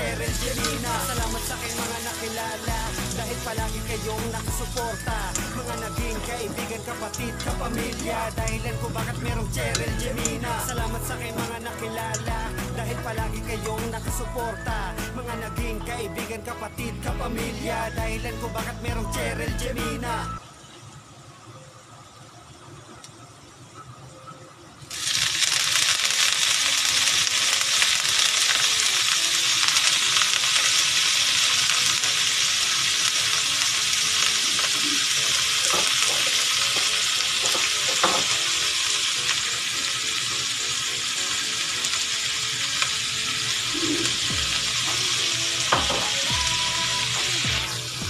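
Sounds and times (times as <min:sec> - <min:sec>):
garlic sizzling in hot oil: 0:00.0 - 0:16.4, 0:24.9 - 0:48.0.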